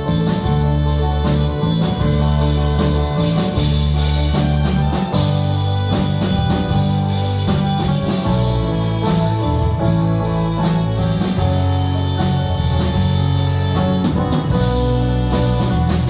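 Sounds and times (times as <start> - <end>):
live band playing instrumental: 0.0 - 16.0.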